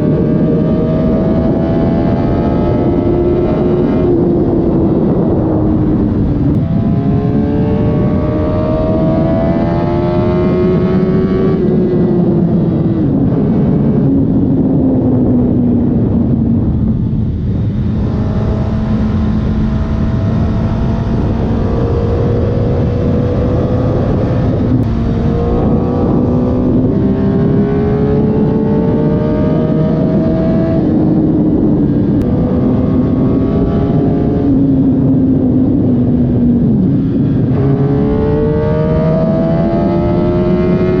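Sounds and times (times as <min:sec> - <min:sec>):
wind and road rush: 0:00.0 - 0:41.0.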